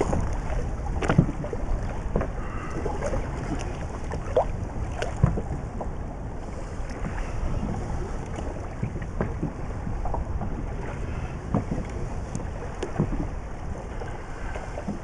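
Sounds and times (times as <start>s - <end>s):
water lapping against boat: 0.0s - 15.0s
wind on microphone: 0.0s - 15.0s.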